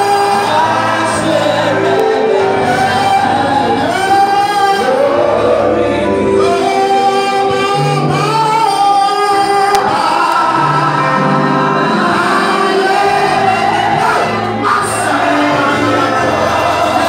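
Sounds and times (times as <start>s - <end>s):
instrumental accompaniment with bass: 0.0s - 17.0s
voices singing gospel music: 0.0s - 17.0s.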